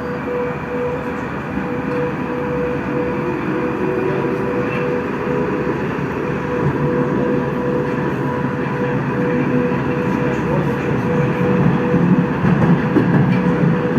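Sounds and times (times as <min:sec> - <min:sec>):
steady whine: 0:00.0 - 0:13.9
train wheels rumbling on rails: 0:00.0 - 0:13.9.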